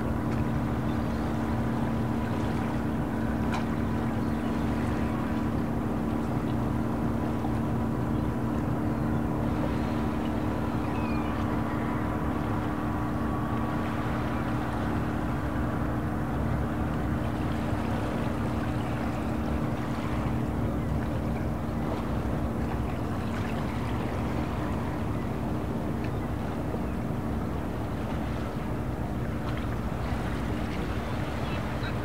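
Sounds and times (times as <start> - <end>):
boat engine humming: 0.0 - 32.0
harbour water washing: 0.0 - 32.0.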